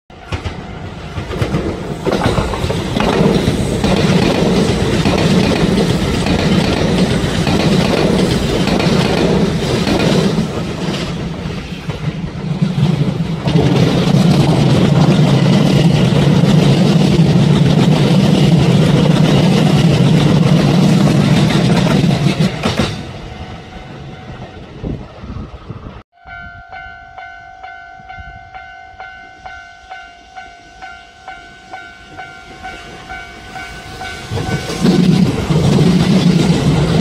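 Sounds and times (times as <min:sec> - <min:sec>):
train running along track: 0:00.1 - 0:37.0.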